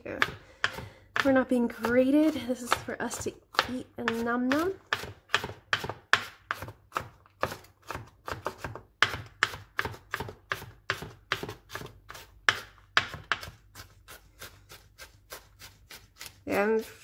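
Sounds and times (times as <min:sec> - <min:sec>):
knife chopping on cutting board: 0:00.2 - 0:17.0.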